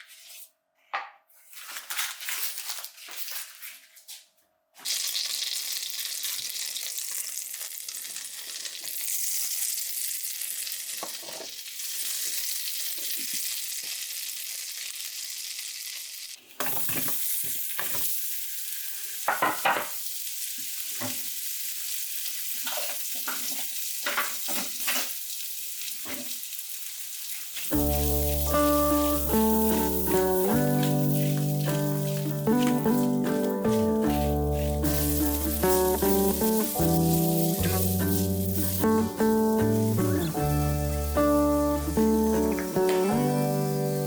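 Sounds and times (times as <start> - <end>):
food sizzling in a frying pan: 4.8 - 44.0.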